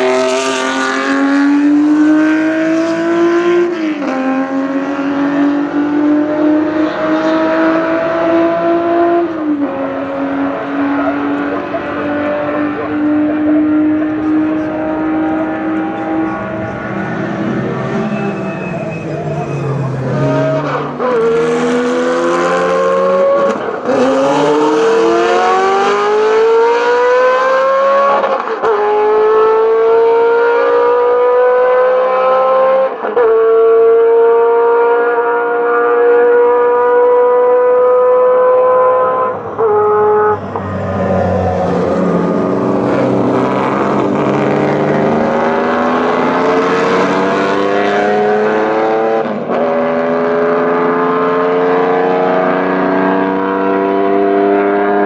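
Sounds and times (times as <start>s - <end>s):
racing car engine accelerating: 0.0s - 55.0s
second race car engine: 0.0s - 55.0s.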